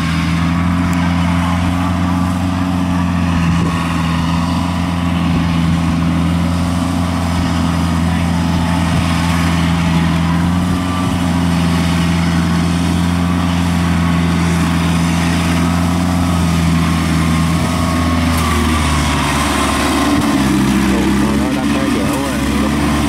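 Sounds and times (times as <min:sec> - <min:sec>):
crawler engine running: 0:00.0 - 0:23.0.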